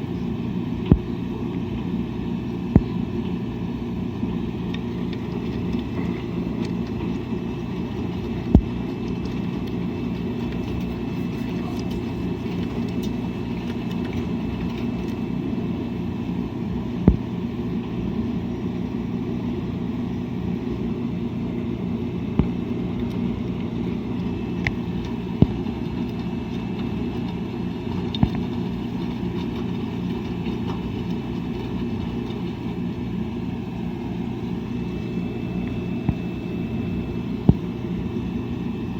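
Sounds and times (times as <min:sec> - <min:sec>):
washing machine rumbling: 0:00.0 - 0:38.9.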